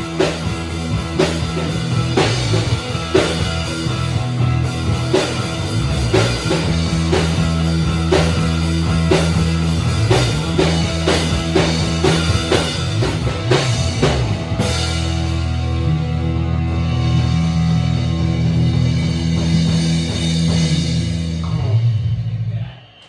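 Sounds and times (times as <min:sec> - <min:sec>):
rock band playing: 0:00.0 - 0:22.4.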